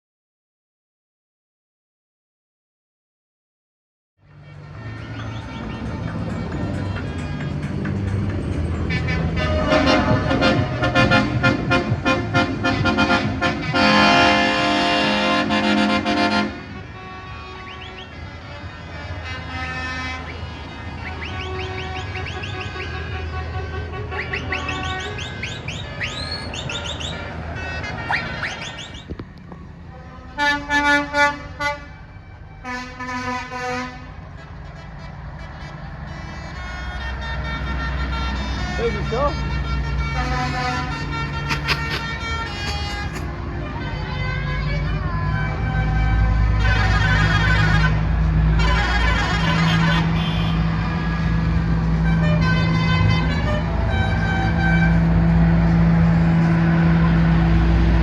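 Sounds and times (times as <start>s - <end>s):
lorry and tractor engines rumbling: 4.2s - 58.0s
vehicle horns tooting: 4.4s - 7.5s, 8.8s - 29.1s, 29.9s - 50.8s, 52.0s - 55.0s.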